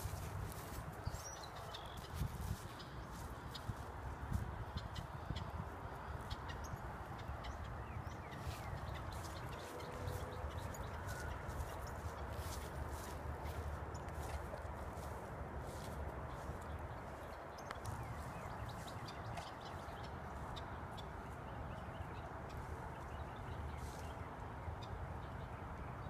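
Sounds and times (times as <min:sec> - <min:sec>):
soft low thuds like footsteps: 0:00.0 - 0:21.8
small birds chirping: 0:00.0 - 0:25.6.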